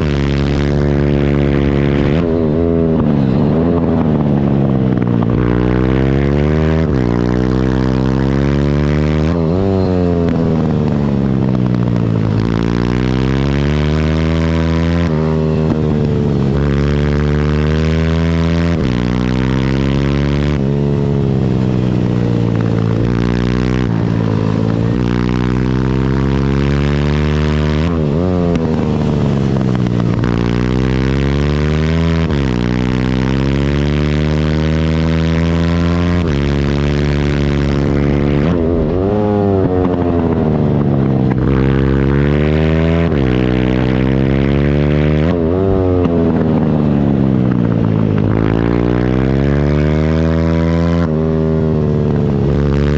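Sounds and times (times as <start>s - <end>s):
pitbike engine revving: 0.0s - 52.9s.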